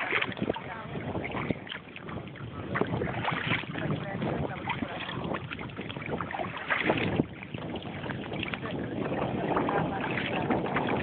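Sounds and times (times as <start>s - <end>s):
paddle strokes splashing water: 0.0s - 11.0s
wind buffeting microphone: 0.0s - 11.0s.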